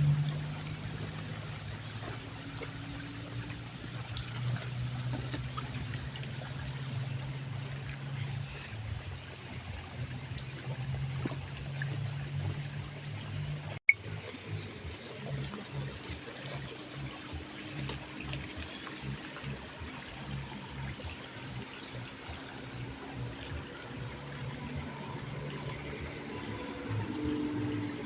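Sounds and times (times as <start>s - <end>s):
running water trickling: 0.0s - 28.0s.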